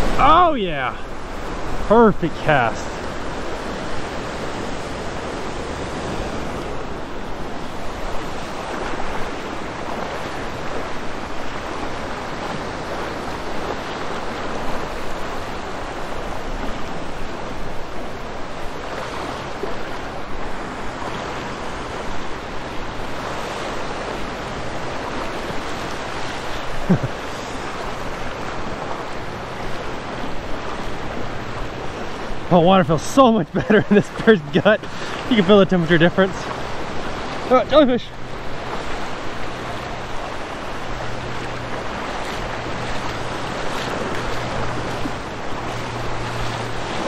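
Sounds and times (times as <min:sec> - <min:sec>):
small waves breaking: 0:00.0 - 0:47.0
water sloshing close: 0:00.0 - 0:47.0.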